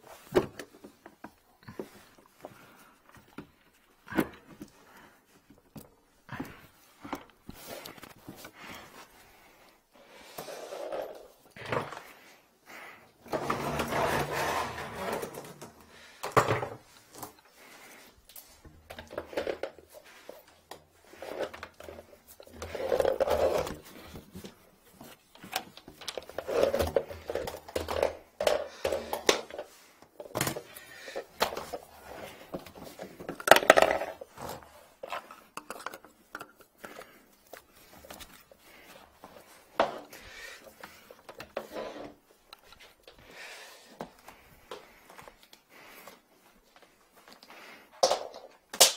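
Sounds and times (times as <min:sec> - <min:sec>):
hoses rustling on floor: 0:00.0 - 0:48.7.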